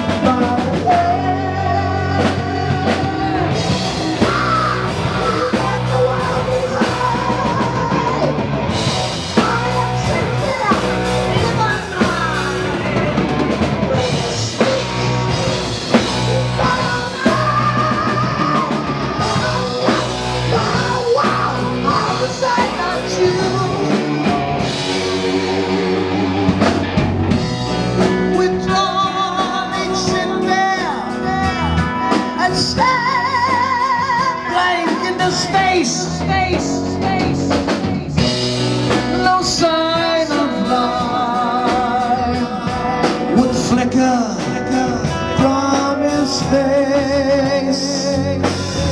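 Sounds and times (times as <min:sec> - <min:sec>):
heavy metal band playing live: 0:00.0 - 0:48.9
lead guitar line with vibrato: 0:00.0 - 0:48.9.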